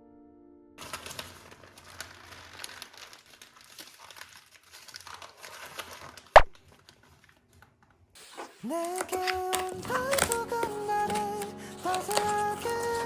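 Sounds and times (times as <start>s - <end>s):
packaging crinkling by hand: 0.8s - 13.0s.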